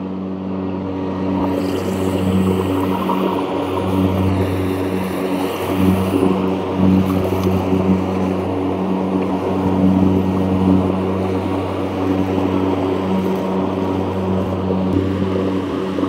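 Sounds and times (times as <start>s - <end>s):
electric mower humming: 0.0s - 16.0s.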